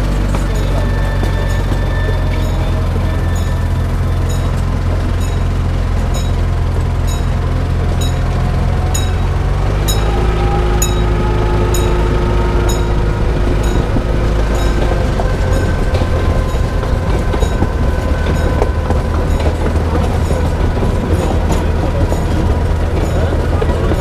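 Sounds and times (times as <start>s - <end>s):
train car rumbling on track: 0.0s - 24.0s
wheels clicking over rail joints: 0.0s - 24.0s.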